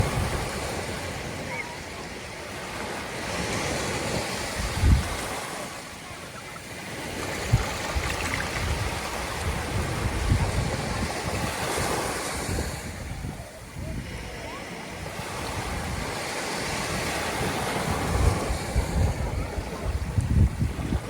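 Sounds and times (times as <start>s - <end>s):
wind rumbling on microphone: 0.0s - 1.6s, 3.2s - 5.7s, 7.0s - 21.0s
surf washing on sandy beach: 0.0s - 21.0s.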